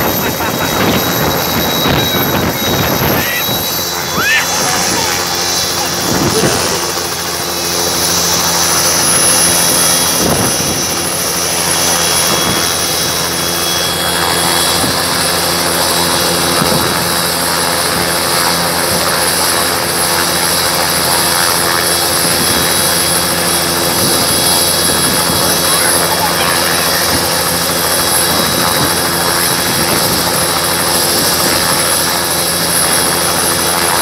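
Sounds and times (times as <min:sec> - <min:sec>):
helicopter rotor: 0:00.0 - 0:34.0
helicopter turbine whine: 0:00.0 - 0:34.0.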